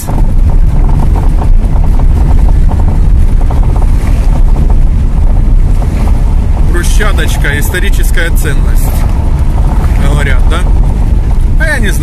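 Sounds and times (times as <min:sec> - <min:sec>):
car rumbling over cobblestones: 0:00.0 - 0:12.0.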